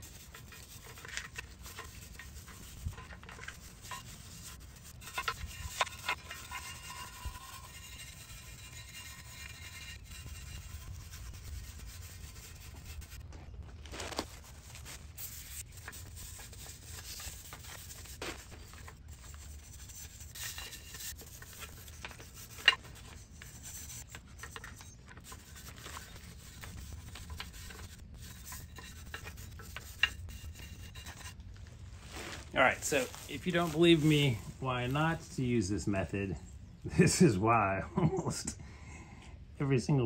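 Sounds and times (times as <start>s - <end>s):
brush scrubbing metal: 0.0s - 13.3s, 14.2s - 35.3s.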